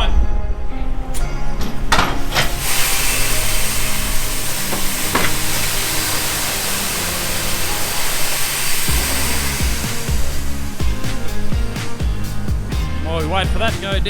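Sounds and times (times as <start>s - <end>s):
compressed air hissing: 2.0s - 14.0s
truck engine running: 2.5s - 14.0s.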